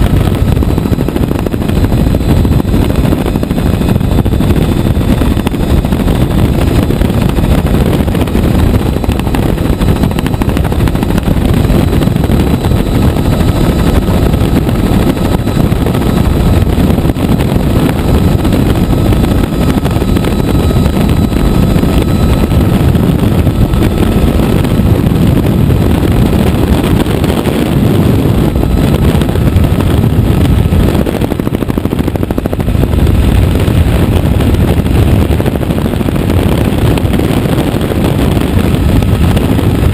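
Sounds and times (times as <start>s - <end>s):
faint whine: 0.0s - 39.9s
helicopter rotor and engine rumble: 0.0s - 39.9s.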